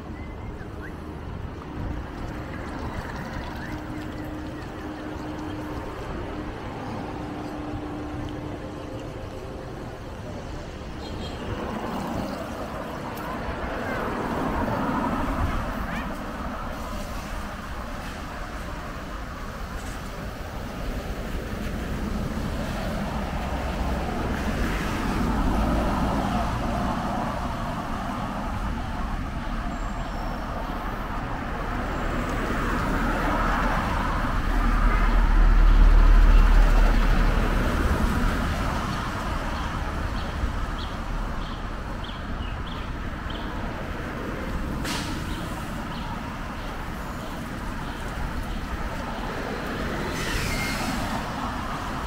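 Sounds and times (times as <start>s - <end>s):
traffic on wet street: 0.0s - 52.0s
heavy truck rumbling: 1.0s - 52.0s.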